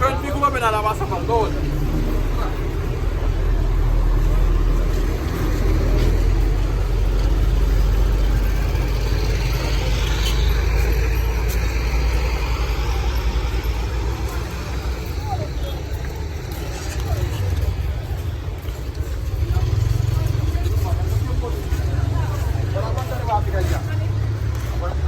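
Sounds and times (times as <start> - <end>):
engine low rumble: 0.0 - 25.0
street noise: 0.0 - 25.0.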